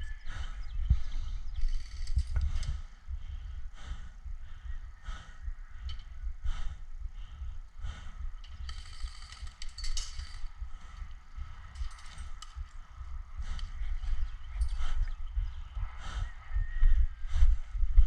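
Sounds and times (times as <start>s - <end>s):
low microphone rumble: 0.0s - 18.0s
person breathing hard: 0.0s - 18.0s.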